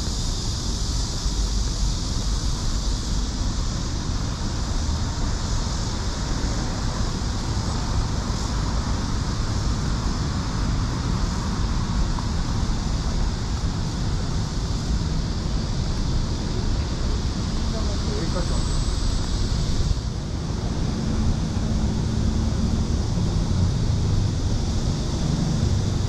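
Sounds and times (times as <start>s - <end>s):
traffic rumble: 0.0s - 26.0s
wind buffeting microphone: 0.0s - 26.0s.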